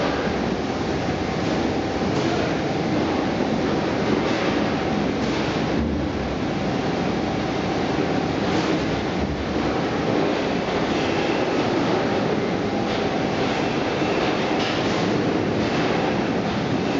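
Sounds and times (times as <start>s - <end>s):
conveyor belts and motors running: 0.0s - 16.9s.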